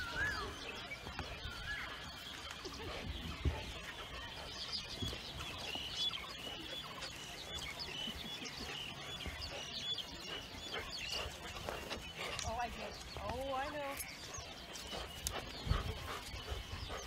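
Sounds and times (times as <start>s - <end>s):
birds chirping: 0.0s - 17.0s
low outdoor background: 0.0s - 17.0s.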